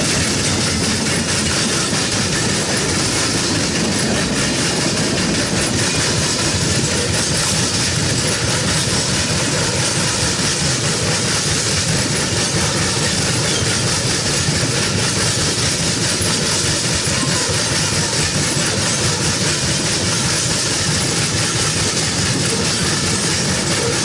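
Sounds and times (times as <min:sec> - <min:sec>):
train wheels rushing on rails: 0:00.0 - 0:24.0.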